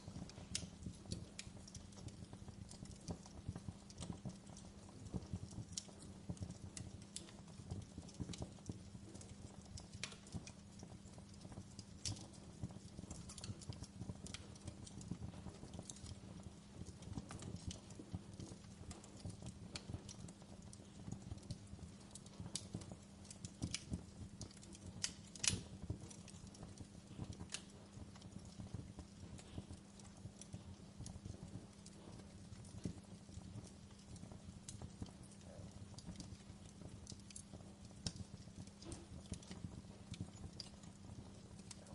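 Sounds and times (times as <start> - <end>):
campfire crackling and popping: 0.0 - 41.9
low rumble of flame: 0.0 - 41.9.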